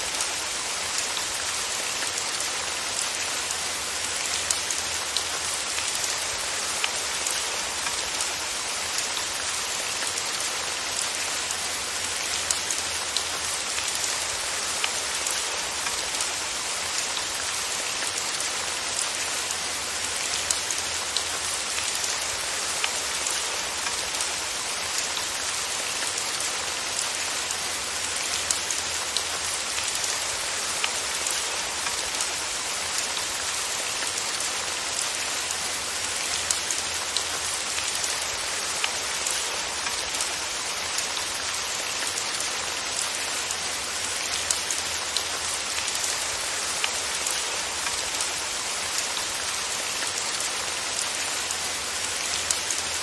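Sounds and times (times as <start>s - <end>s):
rain pattering on a surface: 0.0s - 53.0s.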